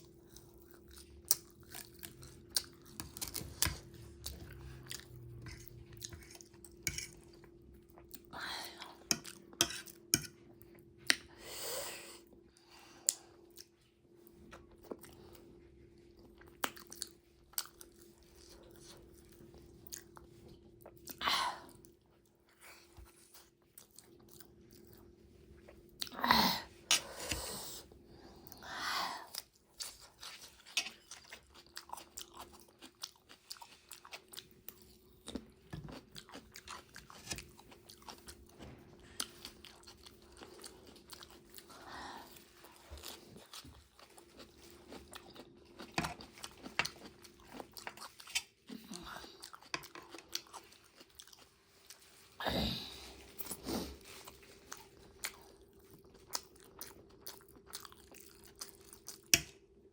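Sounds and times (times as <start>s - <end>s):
chewing crunchy food: 0.0s - 11.3s, 12.3s - 26.2s, 29.2s - 59.9s.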